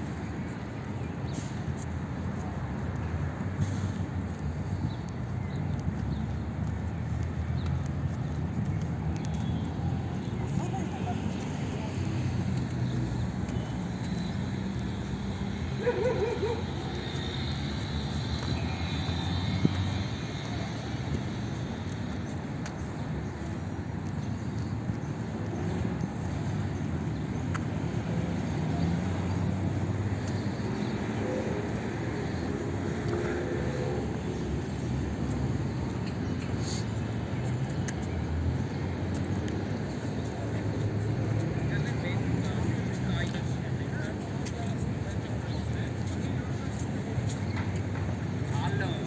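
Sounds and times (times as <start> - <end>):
low hum of traffic: 0.0 - 49.0.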